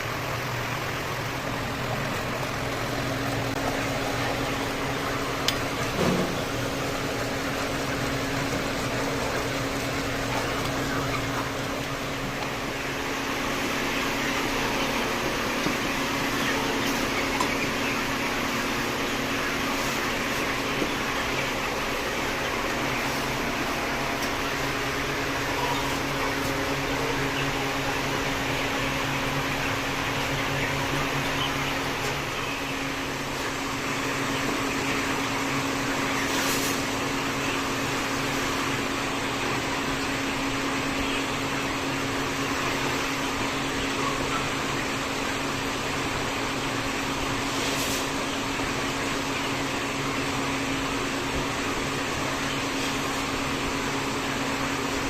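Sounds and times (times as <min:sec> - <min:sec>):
machinery humming: 0:00.0 - 0:55.0.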